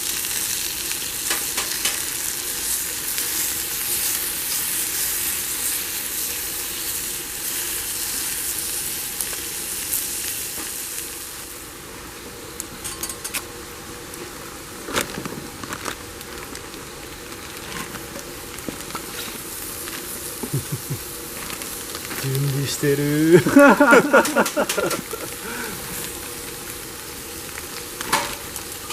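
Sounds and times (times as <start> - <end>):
food sizzling over a fire: 0.0 - 28.9.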